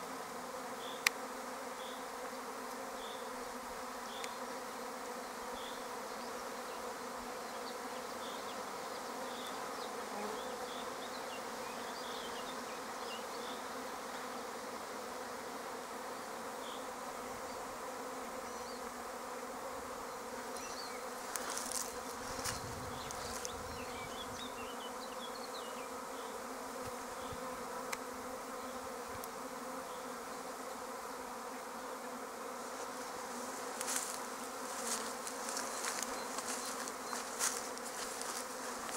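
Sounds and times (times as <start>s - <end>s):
bee swarm buzzing: 0.0s - 38.9s.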